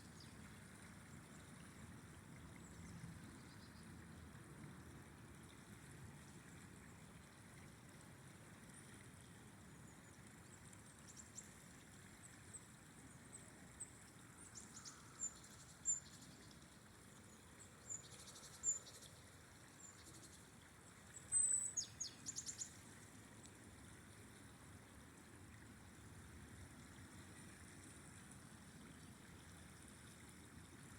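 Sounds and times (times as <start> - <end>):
flowing river water: 0.0 - 30.9.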